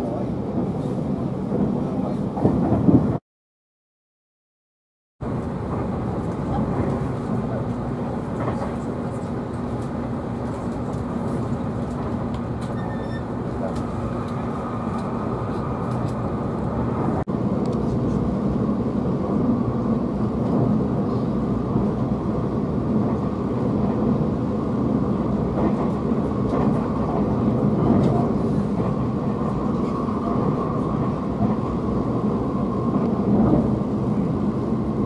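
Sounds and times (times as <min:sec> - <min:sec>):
train running noise in cabin: 0:00.0 - 0:03.2, 0:05.2 - 0:35.0.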